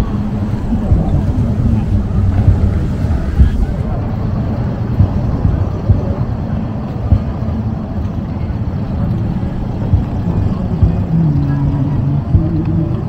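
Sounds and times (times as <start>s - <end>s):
street ambience: 0.0s - 13.0s
wind buffeting the microphone: 0.0s - 13.0s.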